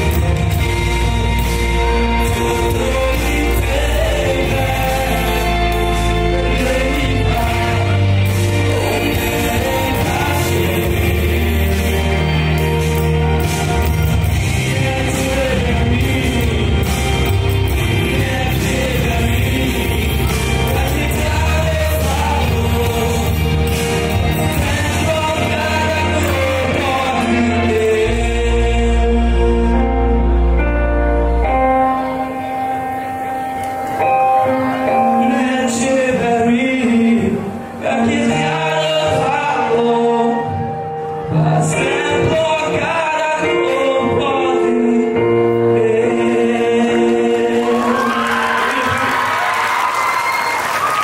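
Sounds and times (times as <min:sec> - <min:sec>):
man singing into a microphone: 0:00.0 - 0:32.2, 0:34.1 - 0:49.5
accompanying music: 0:00.0 - 0:51.0
song over loudspeakers: 0:00.0 - 0:51.0.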